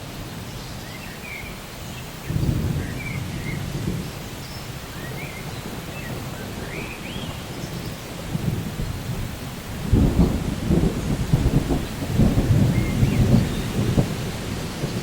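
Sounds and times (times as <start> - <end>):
steady rain: 0.0 - 15.0
rolling thunder: 2.3 - 15.0.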